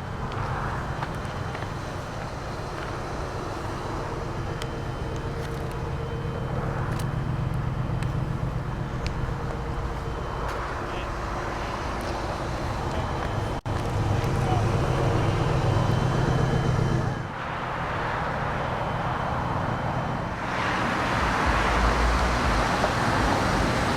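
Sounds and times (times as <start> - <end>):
car engine idling: 0.0 - 17.3, 19.0 - 23.9.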